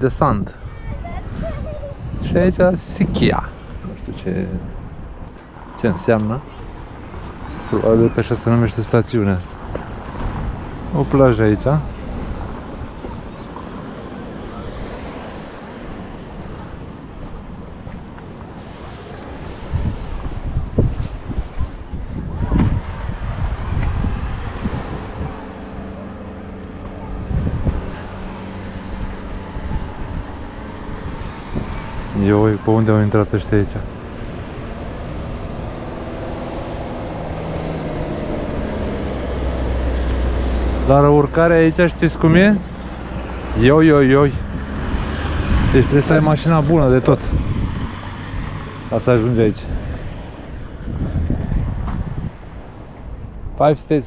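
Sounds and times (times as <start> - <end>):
car engine and tyres approaching: 0.0 - 54.0
wind buffeting microphone: 0.0 - 54.0.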